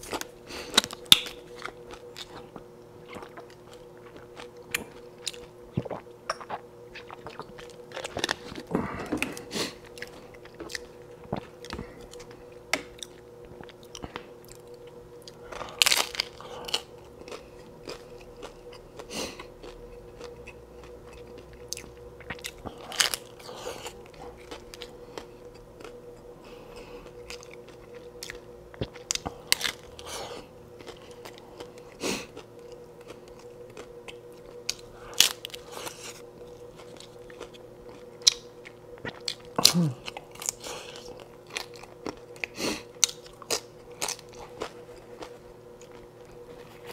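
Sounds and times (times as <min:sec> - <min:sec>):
faint steady hum: 0:00.0 - 0:46.9
wet chewing: 0:00.0 - 0:46.9
taco shell crunching: 0:07.0 - 0:26.0, 0:26.8 - 0:30.1, 0:30.8 - 0:46.9.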